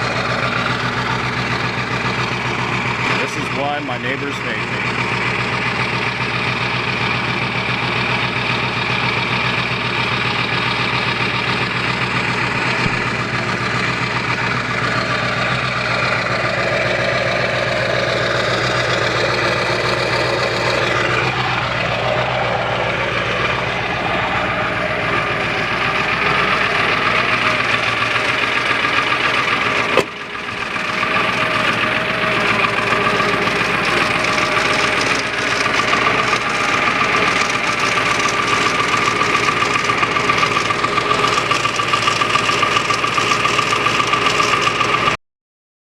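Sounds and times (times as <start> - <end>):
diesel engine idling: 0.0 - 45.2.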